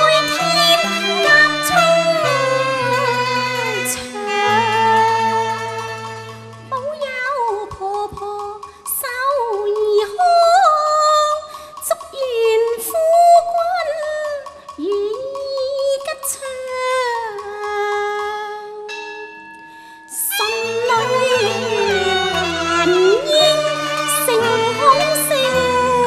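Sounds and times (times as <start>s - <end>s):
woman singing opera: 0.0s - 5.8s, 6.7s - 18.8s, 20.1s - 26.0s
traditional instrumental accompaniment: 0.0s - 26.0s.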